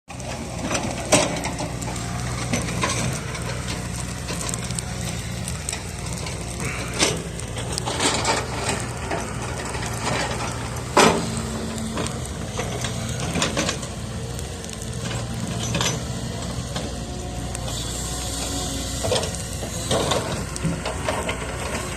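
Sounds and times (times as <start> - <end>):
wood fire crackling and popping: 0.1 - 21.9.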